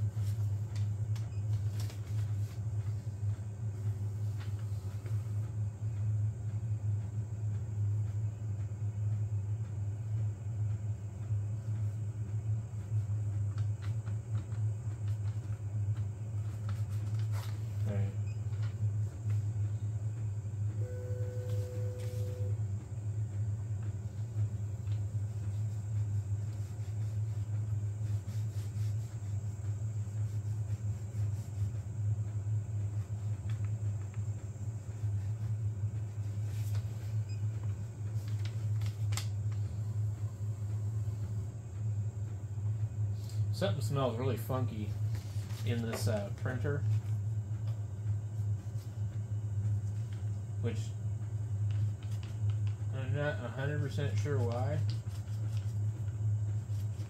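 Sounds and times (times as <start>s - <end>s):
printer humming: 0.0s - 57.0s.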